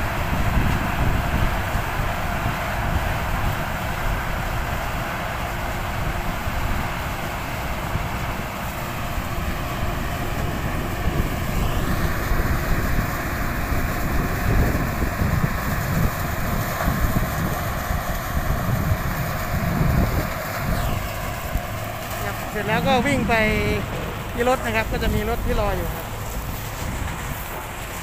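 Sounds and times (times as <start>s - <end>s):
mechanical whine: 0.0s - 28.0s
tractor diesel engine under load: 0.0s - 28.0s
wind gusts on microphone: 0.0s - 28.0s
harvester cutters chopping cane: 0.1s - 28.0s.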